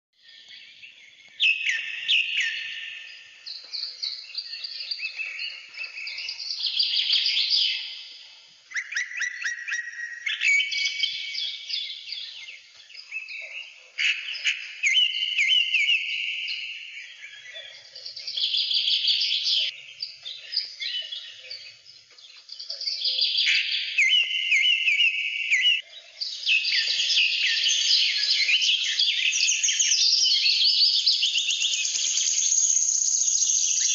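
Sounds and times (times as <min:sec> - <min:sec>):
birds chirping and trilling: 0:00.2 - 0:33.9.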